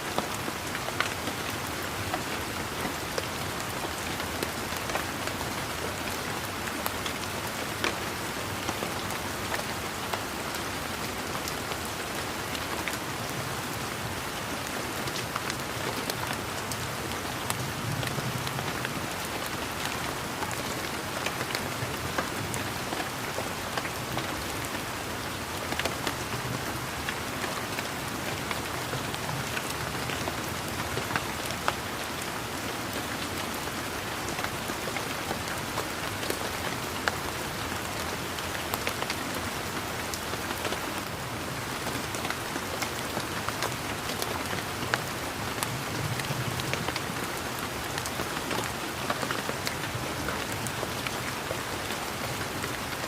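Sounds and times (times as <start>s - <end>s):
rain on leaves: 0.0s - 53.0s.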